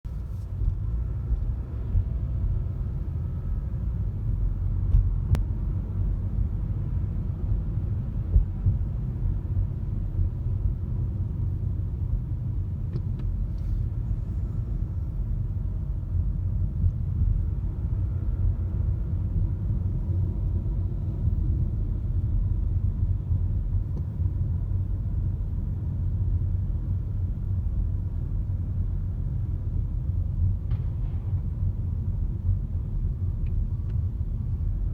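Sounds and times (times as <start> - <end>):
car road and engine noise: 0.0 - 34.9.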